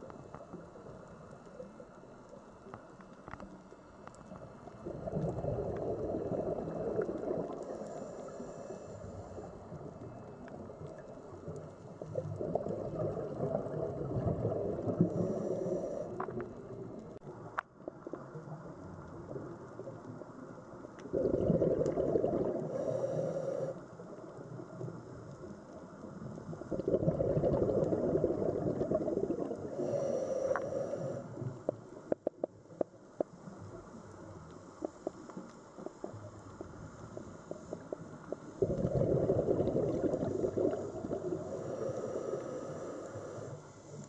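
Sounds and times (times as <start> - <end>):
low underwater rumbling: 0.0 - 32.6, 35.8 - 44.0.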